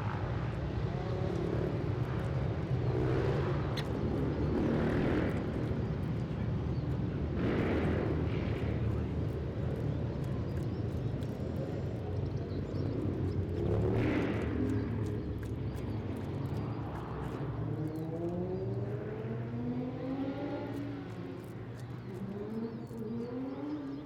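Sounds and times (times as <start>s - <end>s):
steady low traffic rumble: 0.0s - 24.0s.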